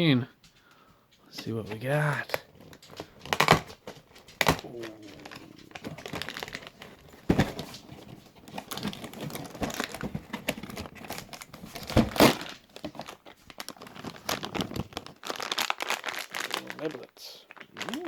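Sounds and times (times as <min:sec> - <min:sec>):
packaging crinkling and tearing: 0:01.7 - 0:18.0.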